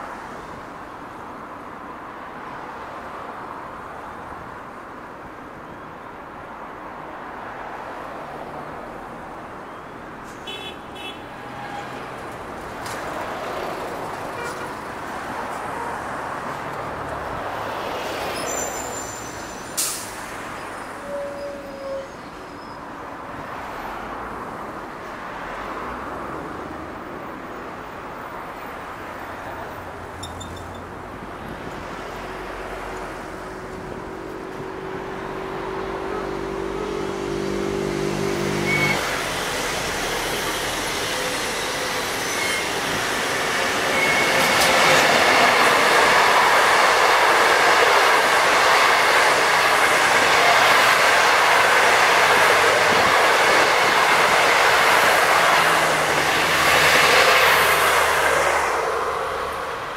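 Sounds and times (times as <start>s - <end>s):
passenger train passing: 10.4s - 27.4s, 28.0s - 59.9s.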